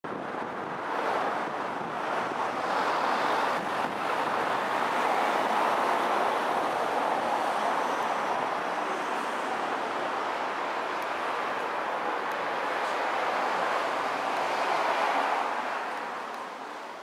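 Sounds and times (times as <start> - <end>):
city street traffic rushing: 0.0 - 17.0.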